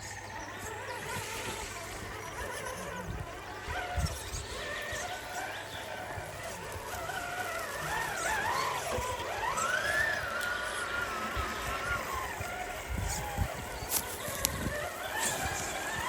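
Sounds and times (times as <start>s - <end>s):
electric motor and gears whining: 0.0s - 16.0s.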